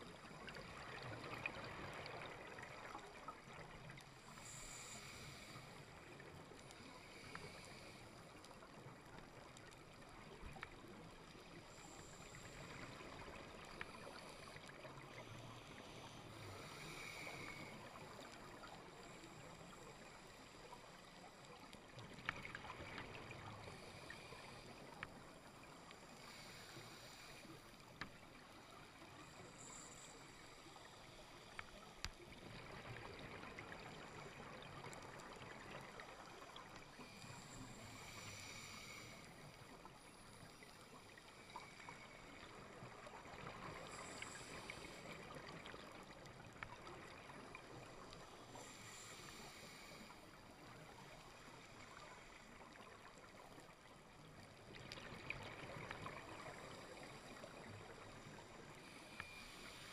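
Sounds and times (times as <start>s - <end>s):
underwater hiss: 0.1s - 10.3s, 10.9s - 46.2s, 46.8s - 59.9s.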